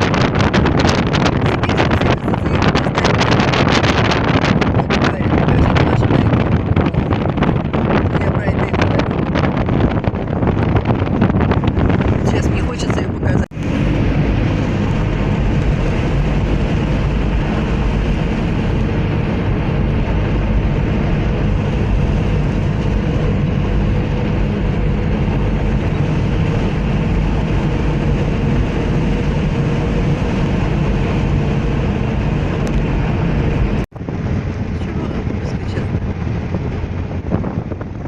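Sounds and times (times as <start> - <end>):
vehicle road rumble: 0.0 - 38.0
wind buffeting microphone: 0.0 - 38.0.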